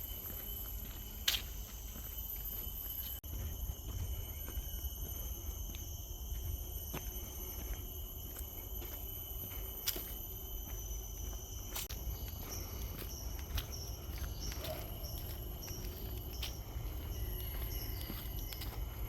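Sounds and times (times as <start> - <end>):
footsteps on forest trail: 0.0 - 19.0
insects droning: 0.0 - 19.0.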